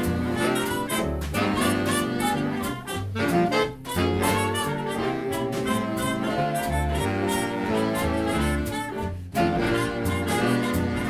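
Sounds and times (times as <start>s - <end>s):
saxophones and brass: 0.0s - 11.0s
walking bass line: 0.0s - 11.0s.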